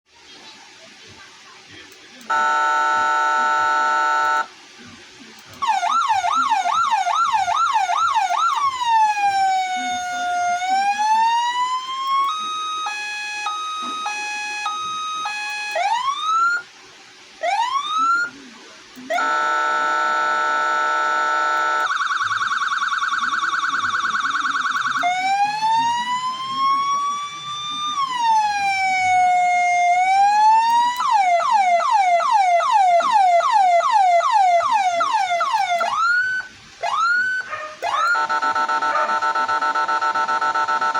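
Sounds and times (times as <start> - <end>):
electronic siren cycling tones: 2.3 - 4.5, 5.6 - 16.7, 17.4 - 18.4, 19.0 - 40.9.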